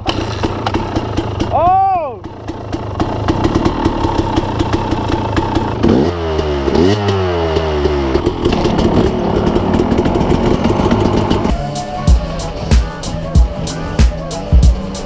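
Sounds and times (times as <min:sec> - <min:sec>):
dirt bike engines revving and idling: 0:00.0 - 0:15.0.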